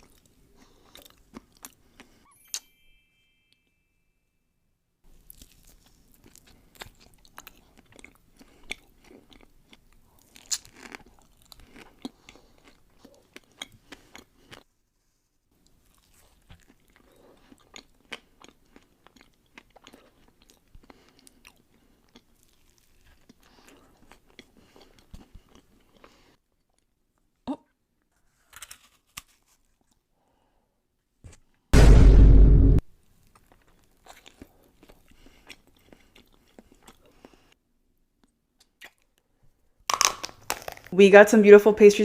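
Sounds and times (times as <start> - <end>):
person chewing crunchy pastry: 0.0 - 2.3, 5.1 - 14.8, 15.5 - 27.4, 28.0 - 30.1, 33.2 - 41.0.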